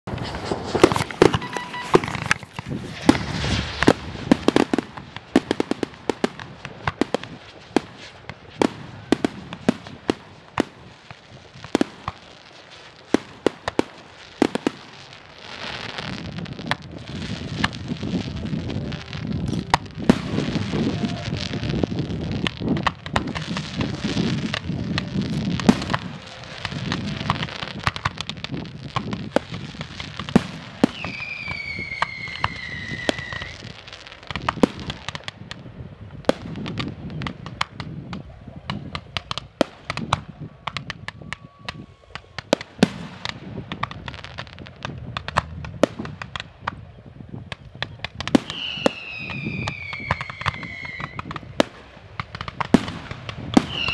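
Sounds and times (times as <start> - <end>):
firework bangs and crackling: 0.0 - 53.9
whistling firework: 0.1 - 53.9.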